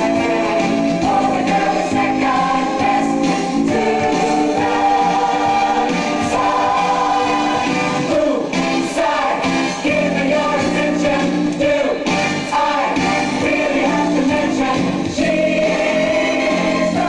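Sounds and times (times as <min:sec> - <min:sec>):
choir singing with accompaniment: 0:00.0 - 0:17.0.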